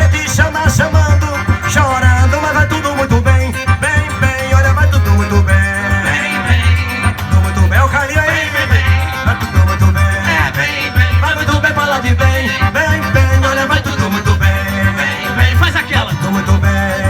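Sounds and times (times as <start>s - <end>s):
live band music: 0.0s - 17.0s
pulsing bass beat: 0.0s - 17.0s.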